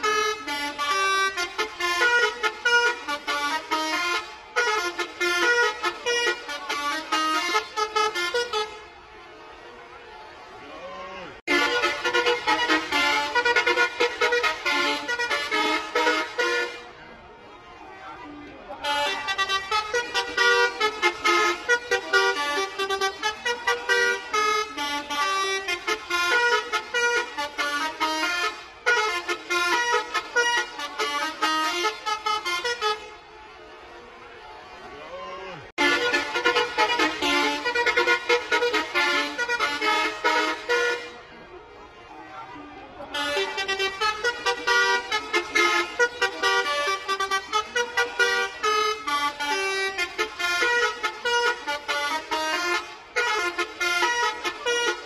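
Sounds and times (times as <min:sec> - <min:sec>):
bus horn playing a bouncy tune: 0:00.0 - 0:10.5, 0:11.2 - 0:17.1, 0:18.7 - 0:34.8, 0:35.5 - 0:41.4, 0:43.0 - 0:55.0.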